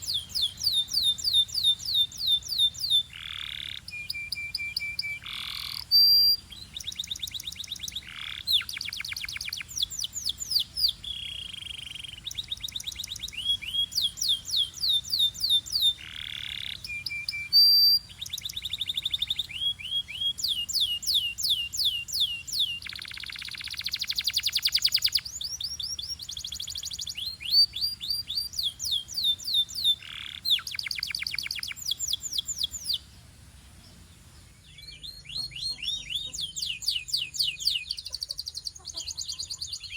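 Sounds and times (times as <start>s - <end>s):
canary singing rapid trills: 0.0s - 33.2s, 34.7s - 39.9s.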